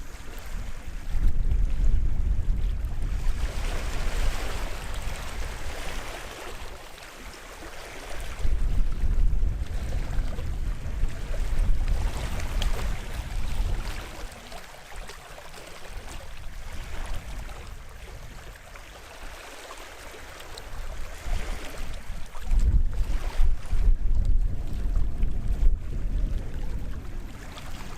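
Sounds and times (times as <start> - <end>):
wind buffeting microphone: 0.0 - 6.8, 8.0 - 19.3, 20.5 - 27.9
small waves washing on shore: 0.0 - 27.9.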